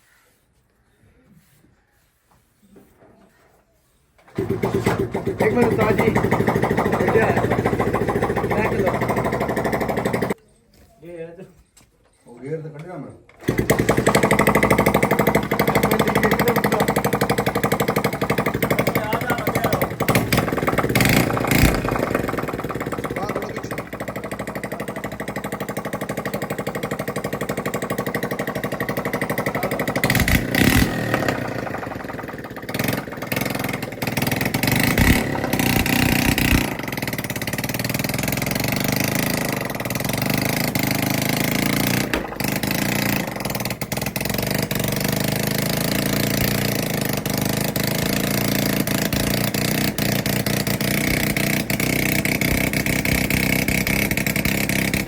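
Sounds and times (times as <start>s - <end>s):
diesel engine running: 4.3s - 10.4s, 13.5s - 55.0s.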